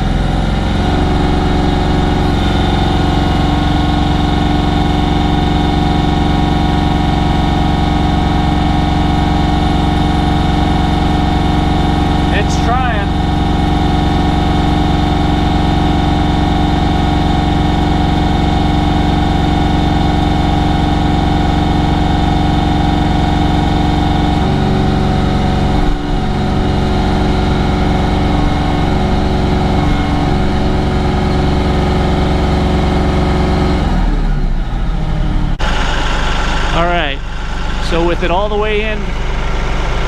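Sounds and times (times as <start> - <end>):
tractor diesel engine straining: 0.0 - 40.0.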